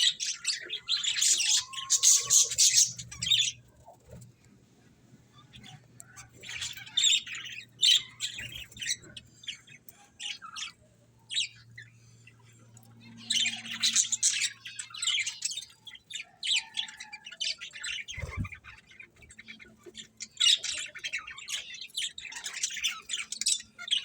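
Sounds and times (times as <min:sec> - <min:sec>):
budgerigars chirping and squawking: 0:00.0 - 0:04.3, 0:05.3 - 0:24.0.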